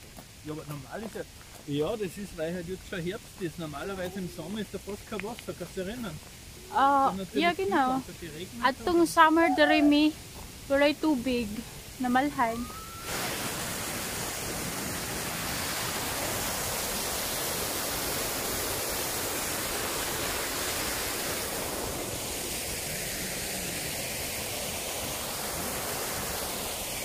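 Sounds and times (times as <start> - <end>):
small waterfall rushing: 0.0 - 27.0.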